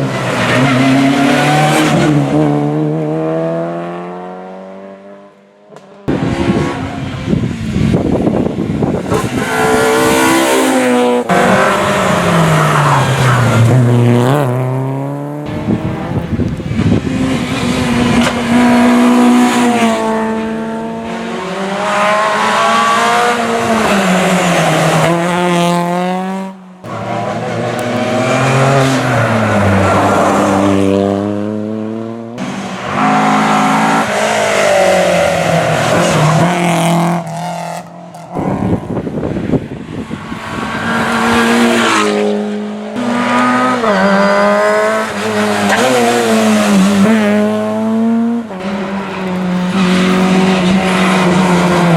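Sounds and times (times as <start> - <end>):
cars passing by: 0.0 - 51.9
rally car engines at full throttle: 0.0 - 51.9.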